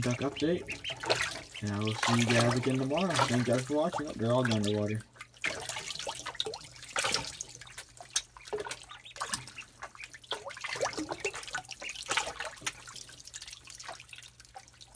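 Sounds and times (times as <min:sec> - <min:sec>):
water splashing and dripping: 0:00.0 - 0:14.9.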